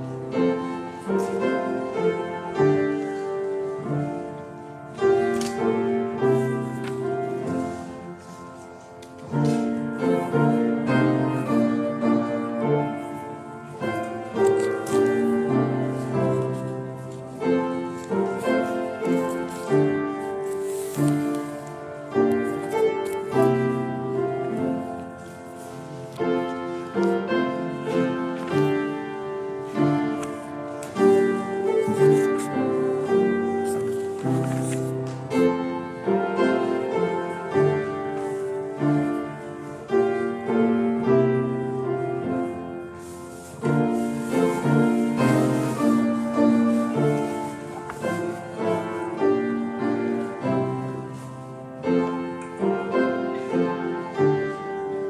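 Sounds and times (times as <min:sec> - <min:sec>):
slow solo piano piece: 0:00.0 - 0:55.0.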